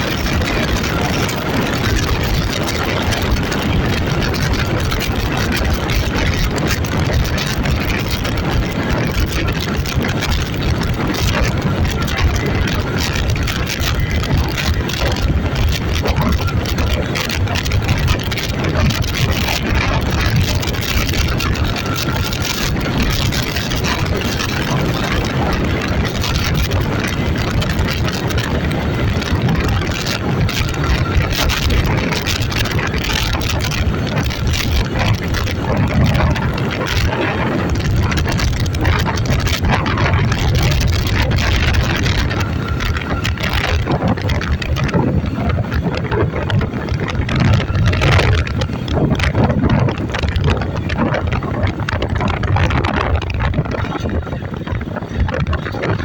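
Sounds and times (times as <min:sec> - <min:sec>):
dense rushing noise: 0:00.0 - 0:56.0
loud engine running: 0:00.0 - 0:56.0.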